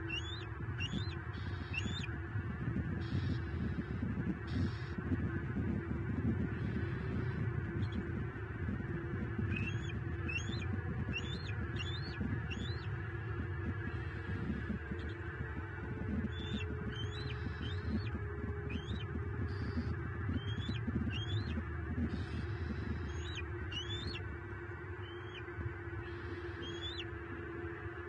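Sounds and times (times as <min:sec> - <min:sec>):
small birds chirping: 0:00.0 - 0:02.1, 0:02.8 - 0:05.1, 0:06.0 - 0:24.3, 0:25.0 - 0:27.1
faint steady hum: 0:00.0 - 0:28.0
wind rumble on microphone: 0:00.0 - 0:28.0.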